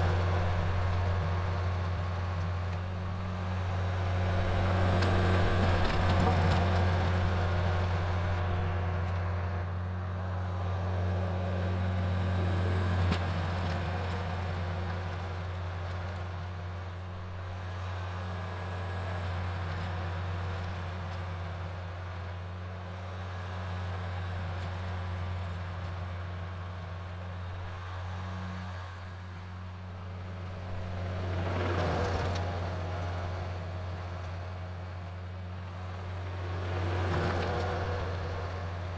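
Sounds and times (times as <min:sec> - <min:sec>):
tractor diesel engine humming: 0:00.0 - 0:38.9.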